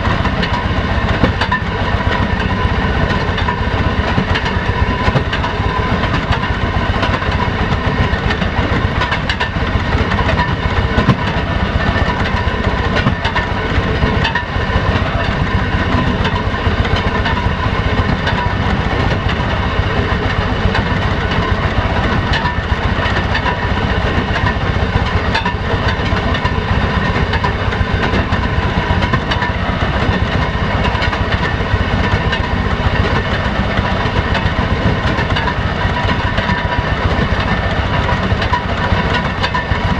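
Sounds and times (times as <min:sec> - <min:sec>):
wheels clicking on rails: 0:00.0 - 0:39.9.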